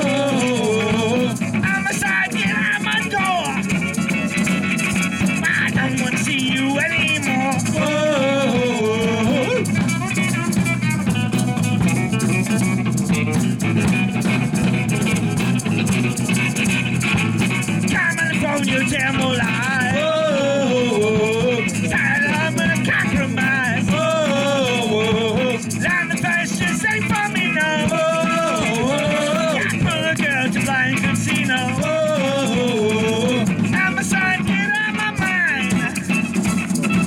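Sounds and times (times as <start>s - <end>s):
live punk band playing: 0.0s - 37.0s.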